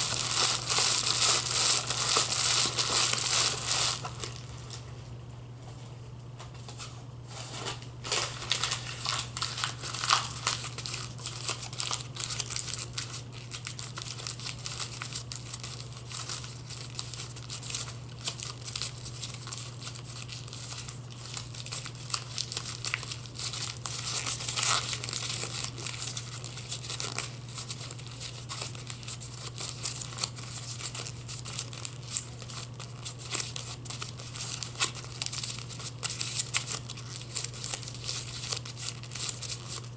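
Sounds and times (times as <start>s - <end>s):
plastic wrapping crinkling: 0.0s - 4.9s, 7.4s - 39.9s.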